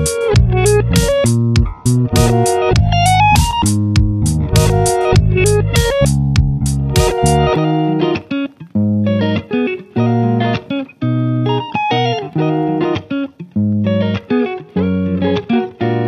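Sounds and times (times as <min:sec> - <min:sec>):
plucked guitar music: 0:00.0 - 0:16.0.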